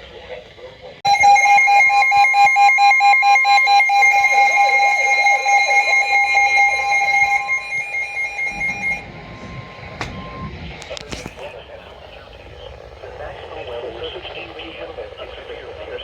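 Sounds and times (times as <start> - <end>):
weather alert radio alarms beeping: 1.0 - 16.0.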